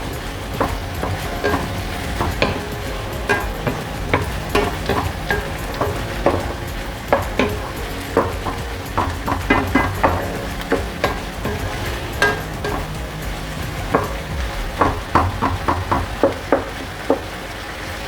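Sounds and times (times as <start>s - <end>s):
meat sizzling in a frying pan: 0.0s - 18.0s
utensil knocking and scraping pan: 0.1s - 17.3s.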